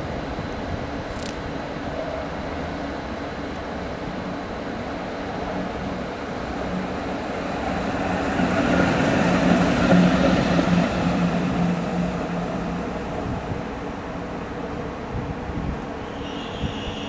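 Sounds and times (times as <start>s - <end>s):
train locomotive humming: 0.0s - 17.0s.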